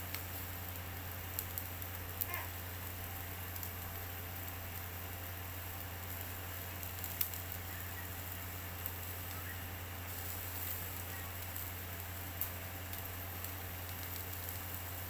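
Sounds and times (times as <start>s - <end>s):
meat sizzling on grill: 0.0s - 15.0s
steady low hum: 0.0s - 15.0s.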